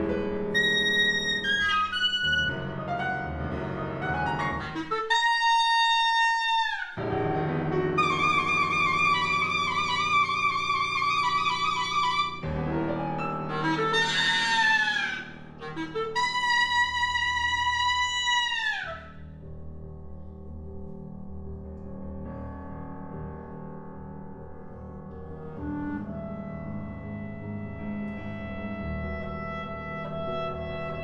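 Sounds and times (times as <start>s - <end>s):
clarinet: 0.0s - 19.4s, 25.4s - 31.0s
piano accompaniment: 0.0s - 31.0s.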